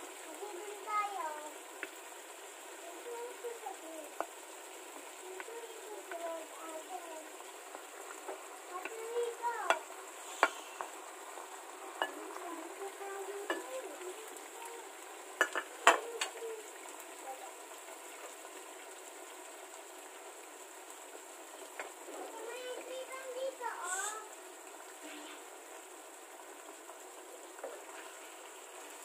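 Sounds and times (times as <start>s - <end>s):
sauce simmering and sizzling in a pan: 0.0s - 29.0s.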